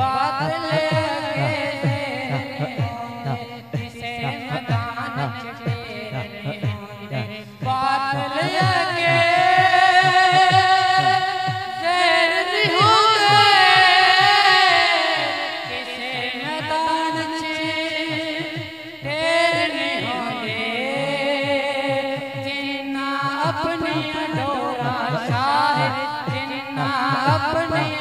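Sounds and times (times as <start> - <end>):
low rhythmic pulse: 0.0 - 28.0
man singing into microphone: 0.0 - 28.0.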